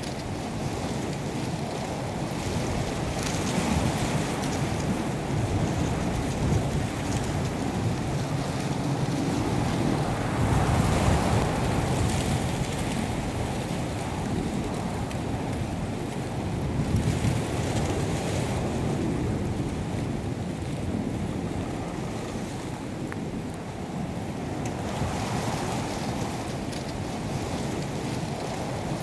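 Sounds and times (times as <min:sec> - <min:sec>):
wind blowing across microphone: 0:00.0 - 0:29.0.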